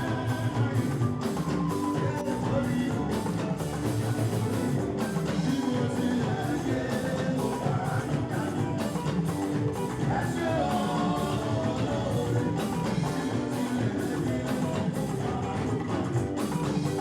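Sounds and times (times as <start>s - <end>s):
music with steady drum beat: 0.0s - 17.0s.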